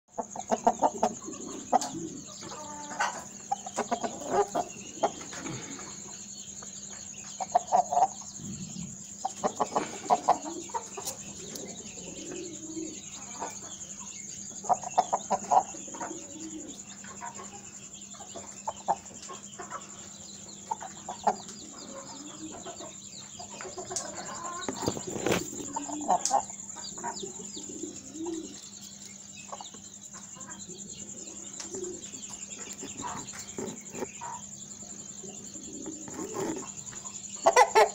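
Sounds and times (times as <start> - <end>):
chickens clucking: 0.1 - 37.9.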